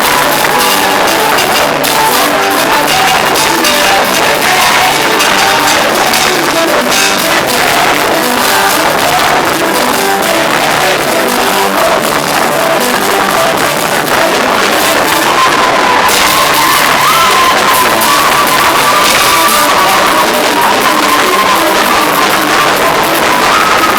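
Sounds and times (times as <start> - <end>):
live band with electric guitar: 0.0 - 23.9
people singing and shouting: 0.0 - 23.9.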